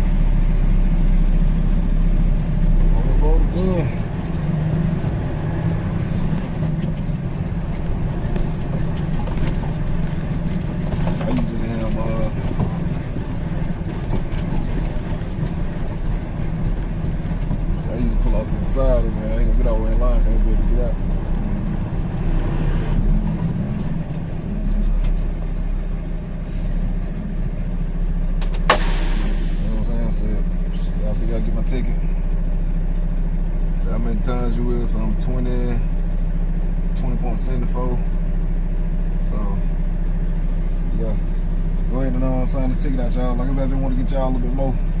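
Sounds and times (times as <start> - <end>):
truck engine humming: 0.0 - 45.0.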